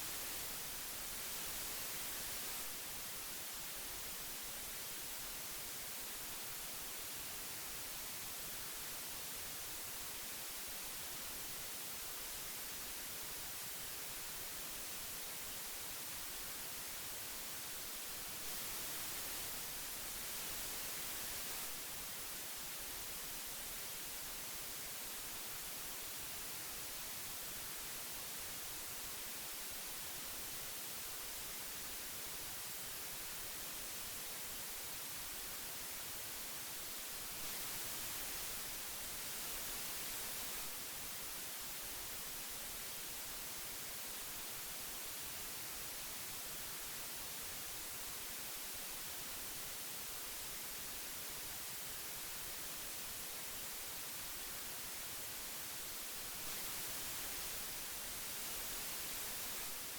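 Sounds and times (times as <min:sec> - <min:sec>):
tape hiss: 0:00.0 - 0:59.9.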